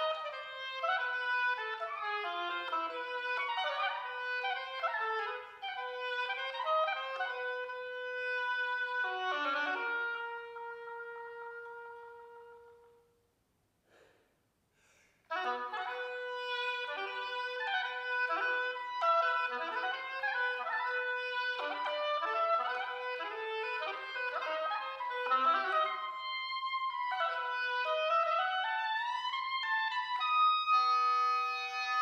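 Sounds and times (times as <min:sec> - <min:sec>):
solo oboe playing fast notes: 0:00.0 - 0:13.2, 0:15.3 - 0:32.0.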